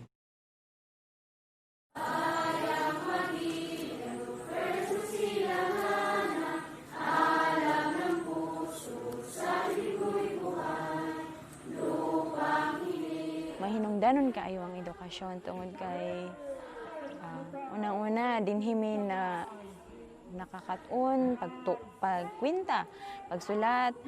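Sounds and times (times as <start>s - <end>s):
voices singing together: 2.0s - 23.7s.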